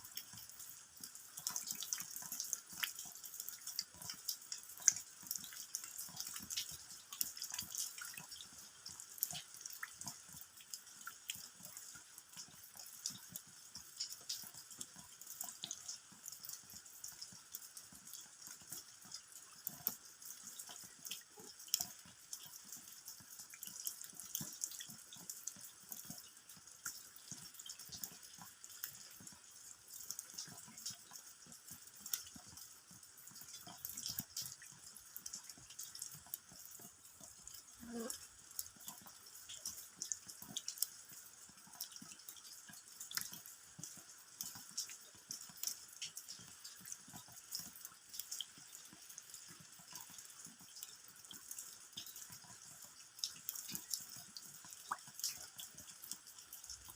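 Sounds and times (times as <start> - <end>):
rain falling: 0.0 - 56.9
raindrops ticking on ground: 0.0 - 56.9.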